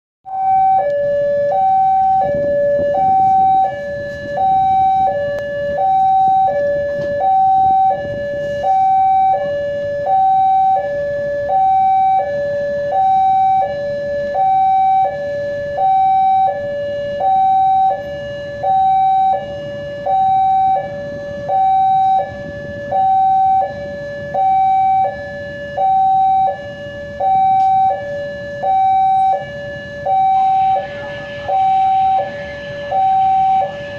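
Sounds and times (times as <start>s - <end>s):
two-tone crossing alarm: 0.2s - 33.9s.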